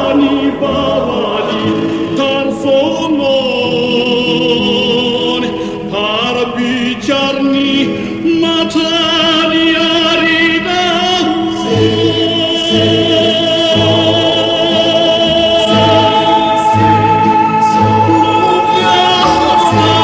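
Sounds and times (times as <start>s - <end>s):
vocal group singing in harmony: 0.0s - 20.0s.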